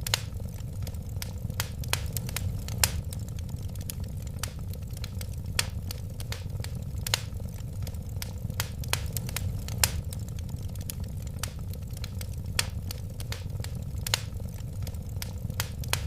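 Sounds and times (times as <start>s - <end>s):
fire popping and crackling: 0.0s - 16.0s
wood fire rumbling: 0.0s - 16.0s.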